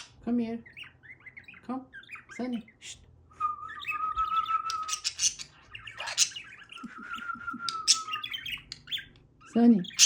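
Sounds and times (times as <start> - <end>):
bird chirping and clicking: 0.0 - 3.1, 3.7 - 10.0.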